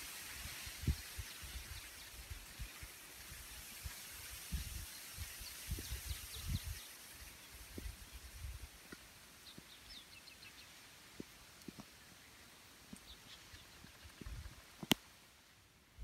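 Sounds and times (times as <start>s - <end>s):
small birds chirping: 0.0s - 15.1s
outdoor hiss: 0.0s - 16.0s.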